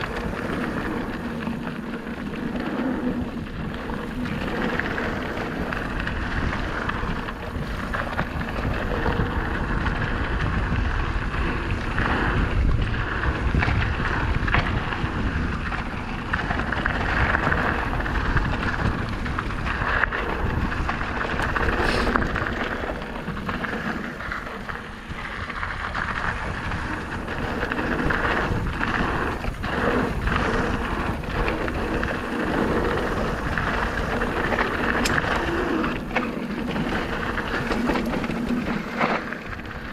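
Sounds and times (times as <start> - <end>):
bike rattling and knocking: 0.0 - 39.9
tyres crunching over dirt: 0.0 - 39.9
wind rushing on microphone: 0.0 - 39.9.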